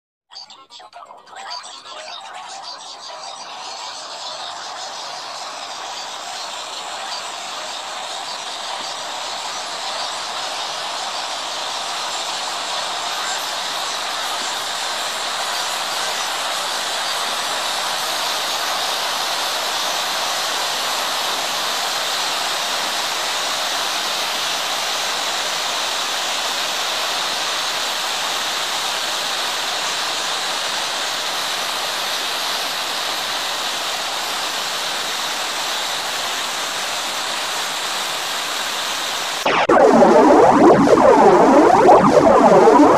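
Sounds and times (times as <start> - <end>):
hiss-like noise wash: 4.0 - 42.9.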